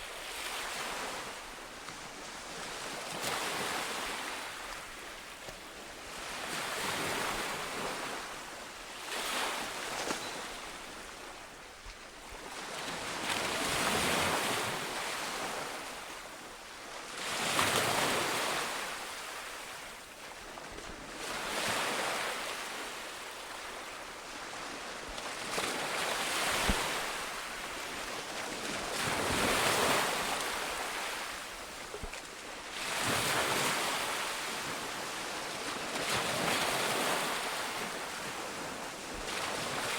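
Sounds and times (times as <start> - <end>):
sea waves breaking on shore: 0.0 - 16.4, 17.1 - 39.9.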